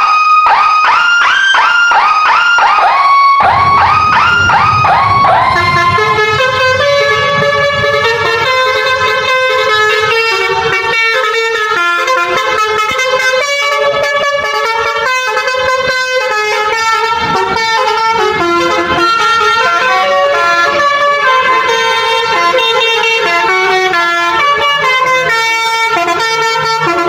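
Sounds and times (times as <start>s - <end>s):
multi-tone bus horn: 3.5s - 27.0s.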